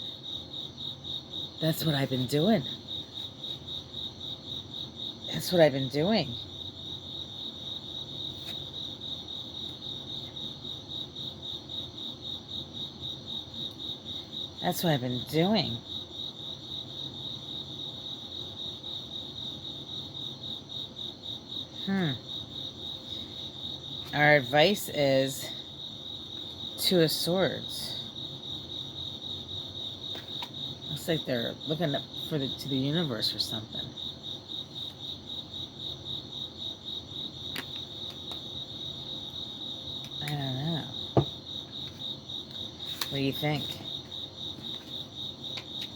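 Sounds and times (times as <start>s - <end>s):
cricket chirping: 0.0s - 45.9s.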